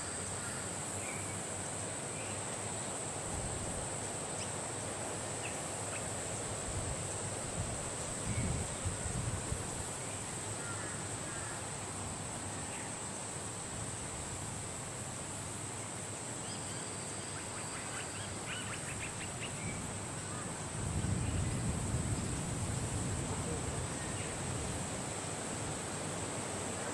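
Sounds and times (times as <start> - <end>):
wind hiss: 0.0 - 26.9.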